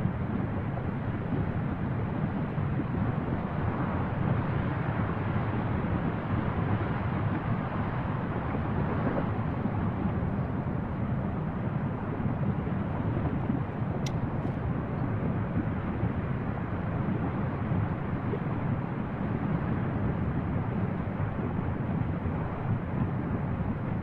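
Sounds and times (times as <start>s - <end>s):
lava vent rumbling and spattering: 0.0s - 24.0s
wind on microphone: 0.0s - 24.0s.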